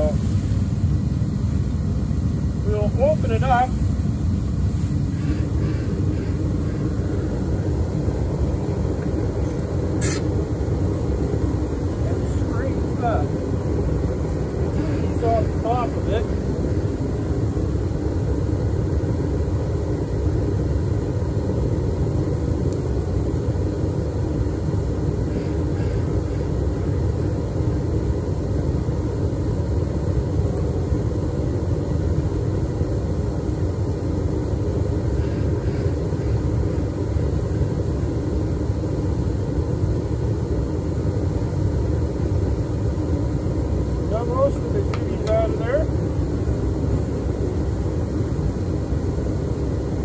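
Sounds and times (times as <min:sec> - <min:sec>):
propane burner roaring: 0:00.0 - 0:50.0.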